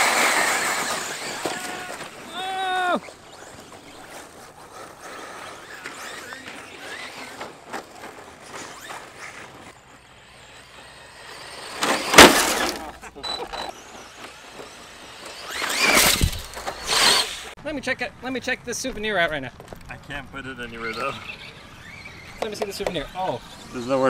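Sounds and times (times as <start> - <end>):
electric rc cars running: 0.0 - 17.6, 18.4 - 24.0.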